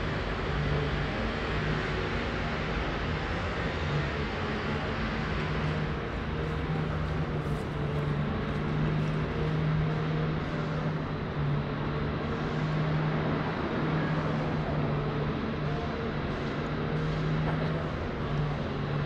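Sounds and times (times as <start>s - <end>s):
low engine hum: 0.0s - 19.0s
road rumble: 0.0s - 19.0s.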